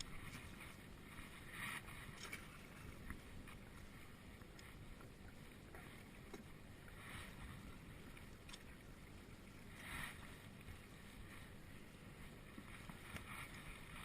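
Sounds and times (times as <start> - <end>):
soft splashing swishes: 0.0 - 14.0
water lapping at shore: 0.0 - 14.0.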